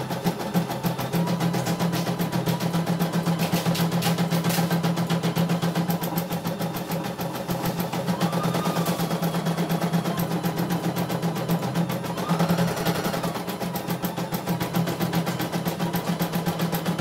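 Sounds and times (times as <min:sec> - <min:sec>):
embroidery machine motor hum: 0:00.0 - 0:17.0
rapid needle clicking: 0:00.6 - 0:17.0.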